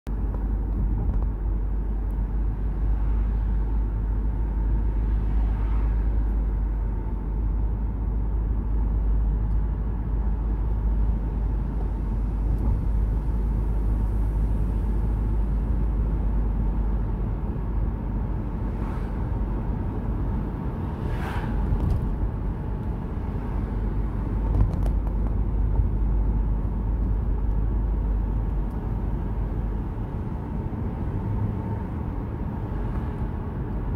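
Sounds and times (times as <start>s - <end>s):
engine and tyre rumble: 0.1s - 33.9s.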